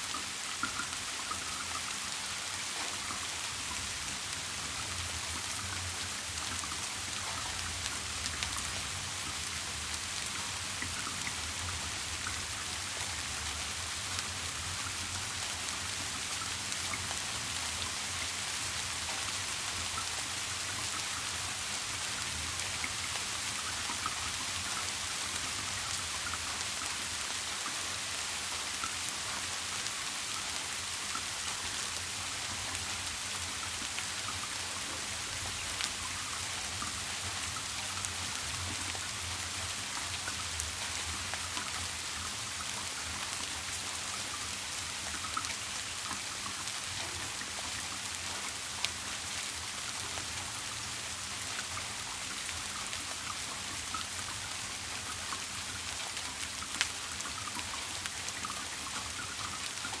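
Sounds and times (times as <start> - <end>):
steady rain: 0.0 - 60.0.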